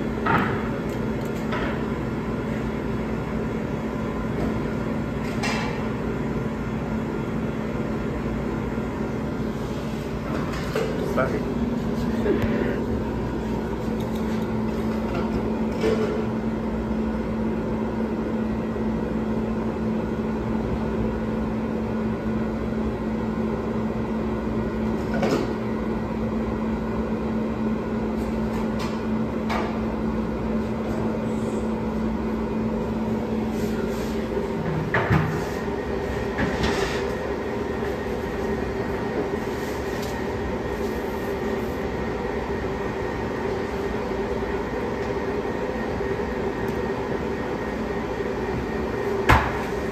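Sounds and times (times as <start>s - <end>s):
kitchen machinery humming: 0.0s - 49.9s.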